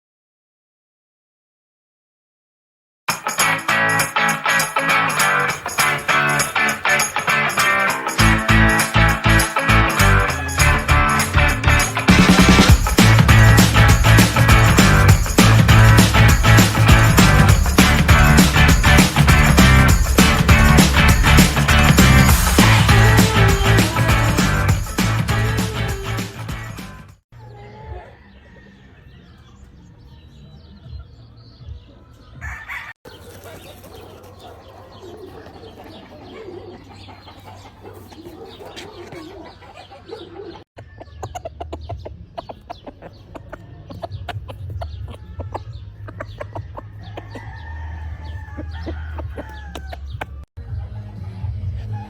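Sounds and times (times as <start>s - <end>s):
chickens clucking: 3.4s - 21.6s, 27.4s - 52.0s
roosters crowing: 3.4s - 26.8s, 27.4s - 30.6s, 32.0s - 41.8s, 45.0s - 52.0s.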